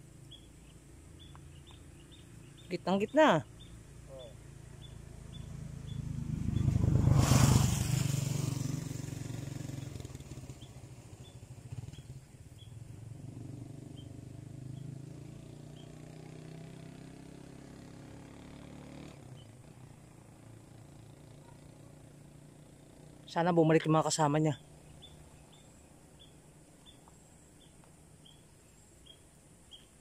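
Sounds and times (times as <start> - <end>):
vehicle passing by: 1.1 - 27.0.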